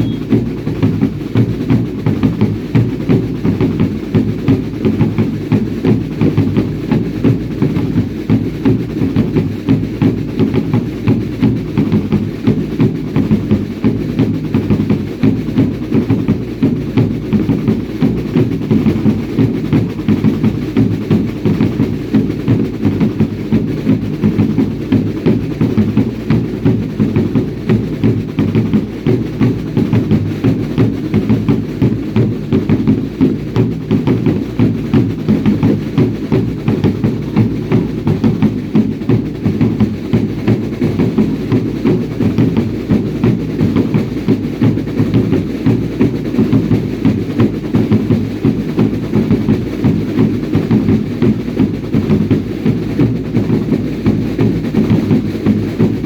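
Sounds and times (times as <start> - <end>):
drums beating steady rhythm: 0.0 - 56.0.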